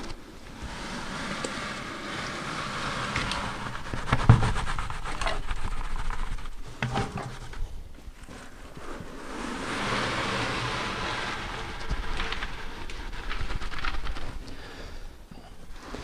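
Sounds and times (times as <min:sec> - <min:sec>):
wet concrete sliding from bucket: 0:00.0 - 0:14.8.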